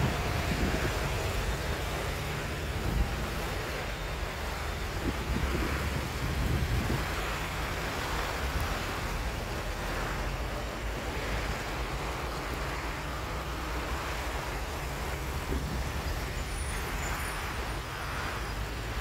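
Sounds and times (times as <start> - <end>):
low traffic rumble: 0.0 - 19.0
vehicles driving past on snowy road: 0.0 - 19.0.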